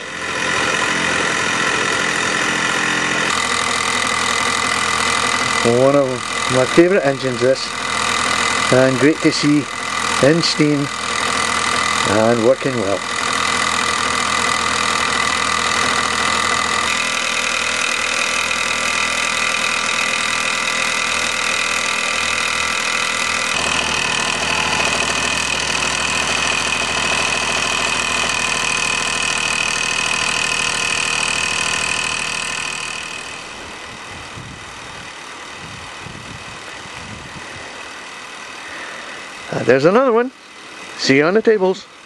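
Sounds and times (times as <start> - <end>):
toy steam engine buzzing: 0.0 - 41.2.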